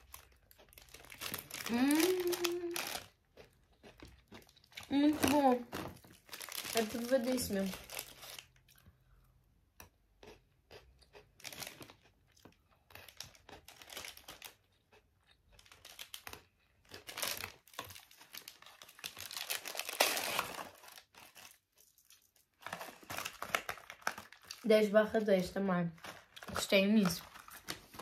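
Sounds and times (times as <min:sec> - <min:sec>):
snack packaging crinkling: 0:00.0 - 0:08.9, 0:10.2 - 0:28.0
crunchy biscuit sticks being chewed: 0:00.0 - 0:25.2, 0:26.0 - 0:28.0.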